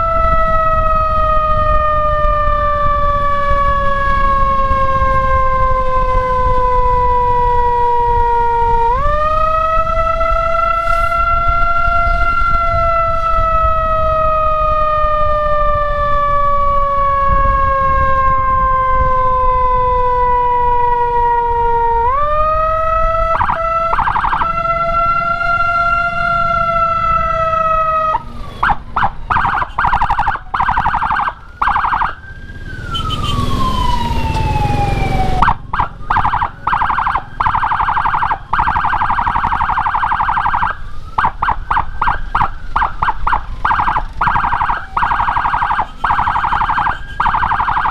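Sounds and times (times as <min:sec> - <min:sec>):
electronic siren wailing and pulsing: 0:00.0 - 0:47.9.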